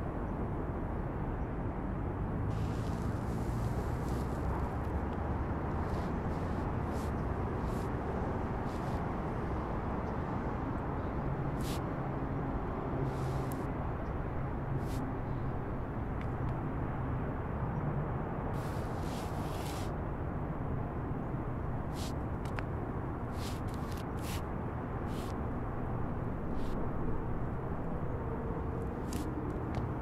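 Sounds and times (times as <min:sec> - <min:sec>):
distant city traffic: 0:00.0 - 0:30.0
low rumble of wind: 0:00.0 - 0:30.0.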